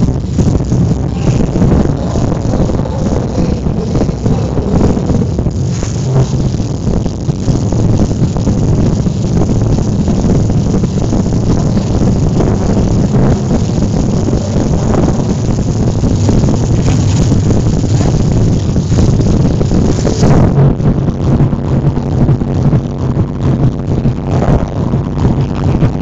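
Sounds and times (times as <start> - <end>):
bass-heavy dance music: 0.0 - 26.0.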